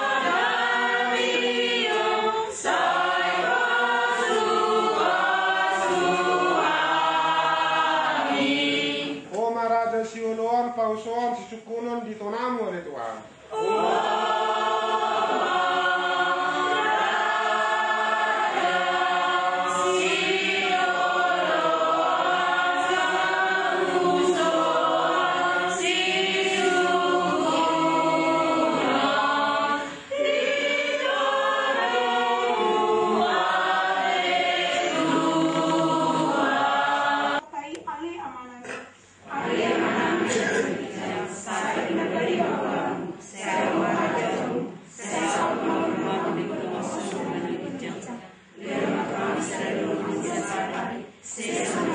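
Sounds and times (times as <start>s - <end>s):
congregation singing a hymn: 0.0s - 9.6s, 13.4s - 37.5s, 39.1s - 51.9s.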